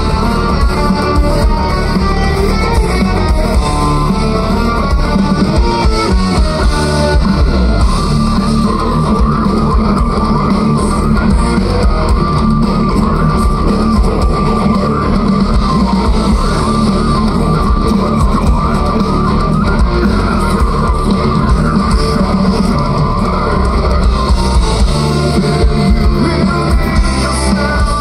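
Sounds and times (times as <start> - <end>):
metal band playing: 0.0 - 28.0.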